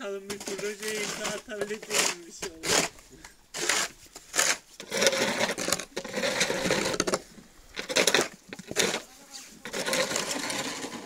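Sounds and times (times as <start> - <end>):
snow crunching and scraping: 0.0 - 11.0.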